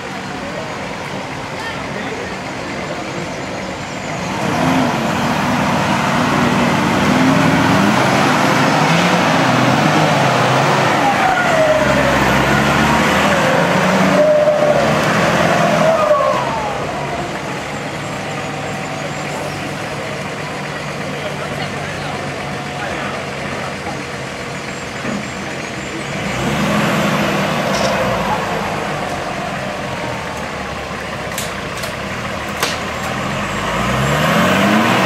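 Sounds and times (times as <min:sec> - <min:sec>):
engine revving under load: 0:02.1 - 0:35.0.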